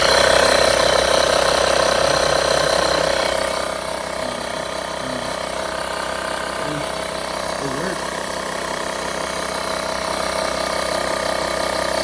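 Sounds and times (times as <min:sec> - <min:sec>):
air compressor chattering: 0:00.0 - 0:12.0.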